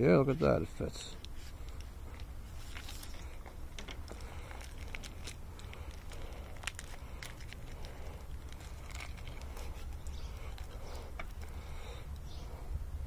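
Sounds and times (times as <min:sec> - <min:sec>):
wires clicking and rustling: 0:00.0 - 0:12.4
low background rumble: 0:00.0 - 0:13.0.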